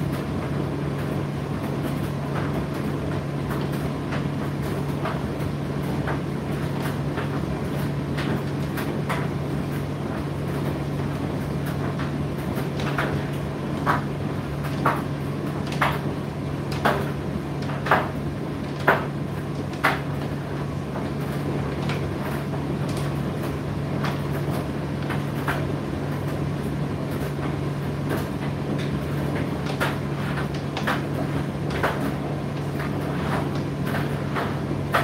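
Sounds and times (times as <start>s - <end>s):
tumble dryer running: 0.0s - 35.0s.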